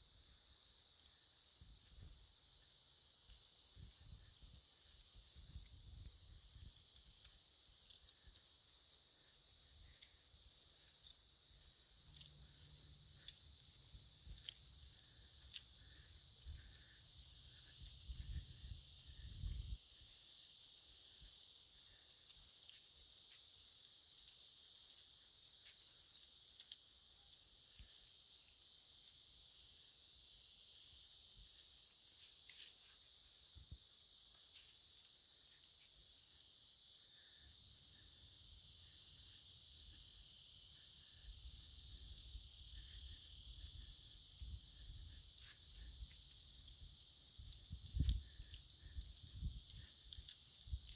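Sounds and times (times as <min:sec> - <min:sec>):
insect chorus drone: 0:00.0 - 0:50.9.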